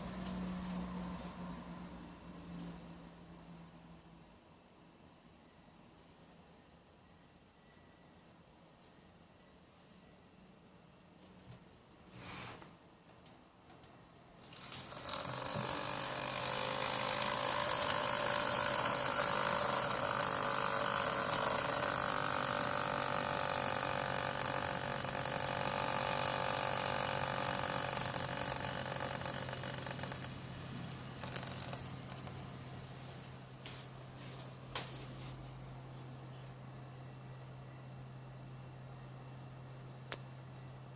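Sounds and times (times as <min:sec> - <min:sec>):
cooler pump mechanical noise: 0:00.0 - 0:03.3, 0:11.3 - 0:40.9.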